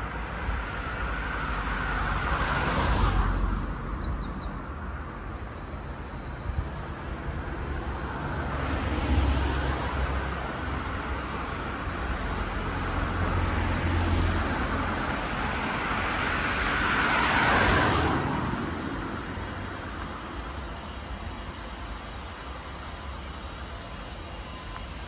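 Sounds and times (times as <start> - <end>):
vehicle passing by: 0.0 - 22.2
low rumble of traffic: 0.0 - 25.0.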